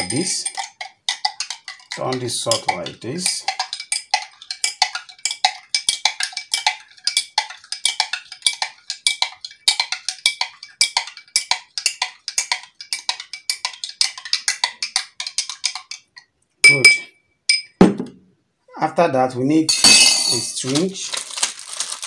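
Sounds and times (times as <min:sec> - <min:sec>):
metal spoon clinking against glass: 0:00.0 - 0:16.0, 0:16.6 - 0:17.8, 0:19.7 - 0:20.8.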